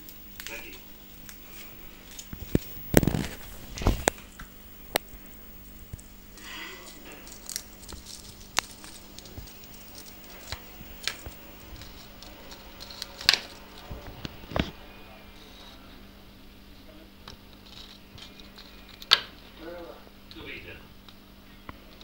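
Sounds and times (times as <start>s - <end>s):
parrot pecking nut shell: 0.0s - 15.9s, 17.2s - 22.0s.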